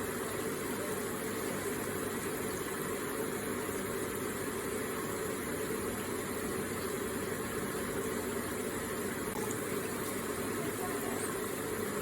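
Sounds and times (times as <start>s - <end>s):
water flowing gently: 0.0s - 12.0s.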